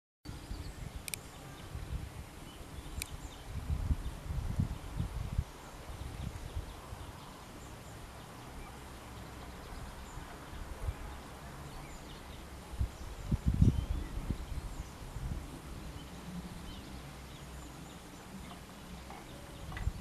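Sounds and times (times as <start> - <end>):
outdoor background hiss: 0.3 - 20.0.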